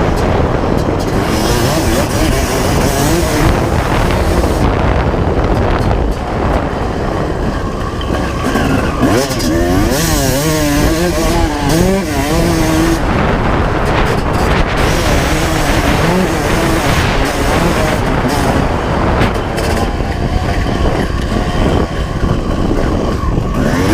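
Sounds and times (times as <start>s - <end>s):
loud rushing noise: 0.0s - 23.9s
two-stroke motorcycle engine revving: 0.0s - 23.9s.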